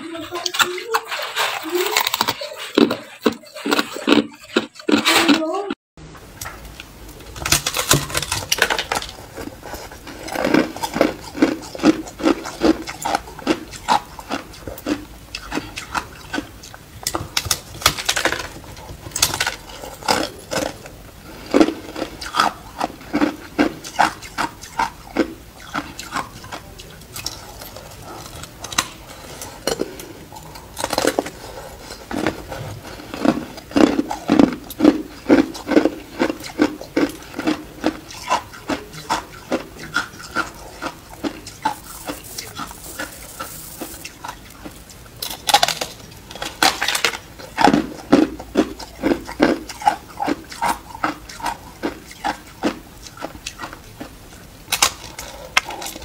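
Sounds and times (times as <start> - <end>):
ice being crunched and chewed: 0.4 - 5.7, 7.2 - 56.0.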